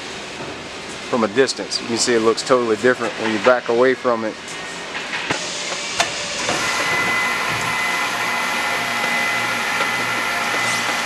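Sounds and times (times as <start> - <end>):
machine whirring with high whine: 1.0 - 11.0.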